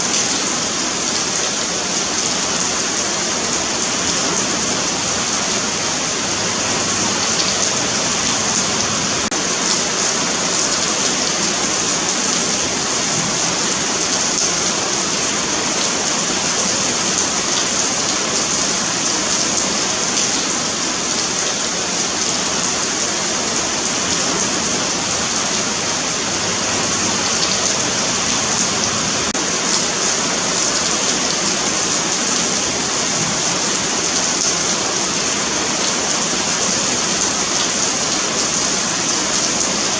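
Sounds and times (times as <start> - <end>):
rain falling on a sidewalk: 0.0 - 39.9.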